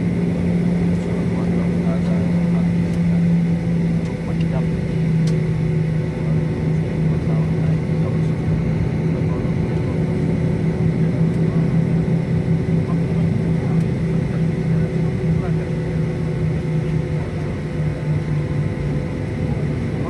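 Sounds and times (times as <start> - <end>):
airliner engines droning: 0.0 - 20.0.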